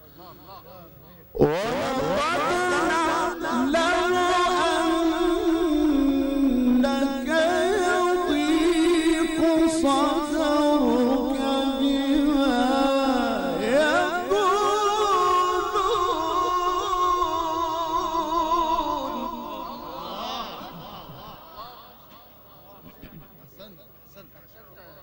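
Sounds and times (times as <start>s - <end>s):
man chanting recitation: 0.0s - 25.0s.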